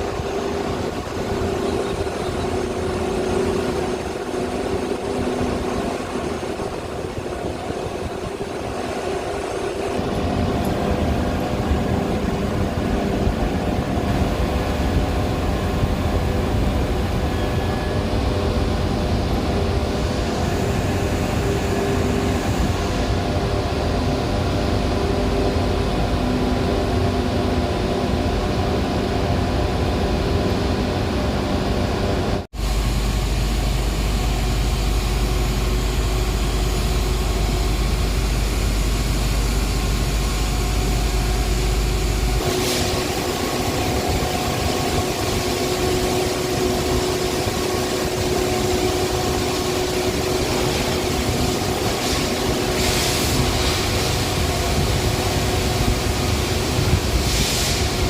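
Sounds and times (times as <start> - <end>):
deep machine drone: 0.0 - 58.0
industrial machinery humming: 0.0 - 58.0.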